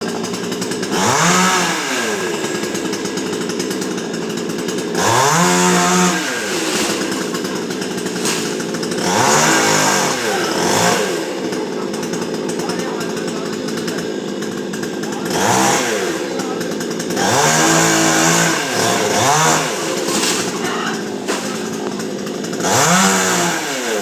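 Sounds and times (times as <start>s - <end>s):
chainsaw idling and revving: 0.0s - 24.0s.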